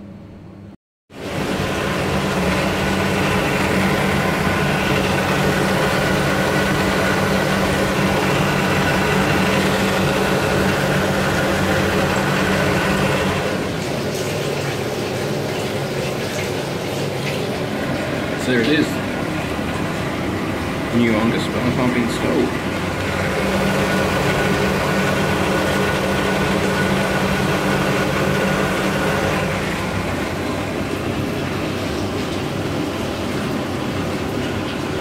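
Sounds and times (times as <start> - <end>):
electric pump motor humming: 1.1 - 35.0.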